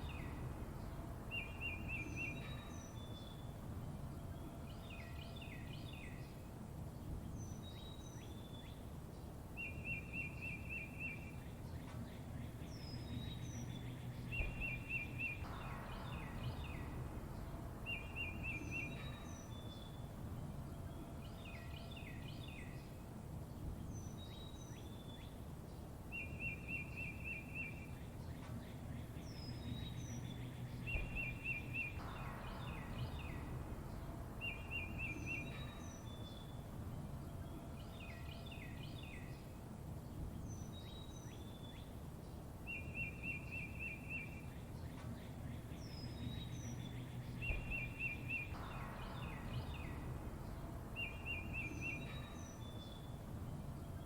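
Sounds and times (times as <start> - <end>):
steady low rumble: 0.0 - 8.4, 11.3 - 26.1, 27.8 - 54.0
wild birds chirping and singing: 0.0 - 54.0.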